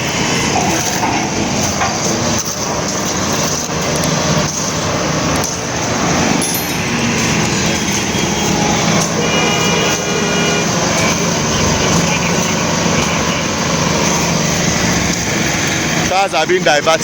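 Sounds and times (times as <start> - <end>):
vehicle engines running: 0.0 - 17.0.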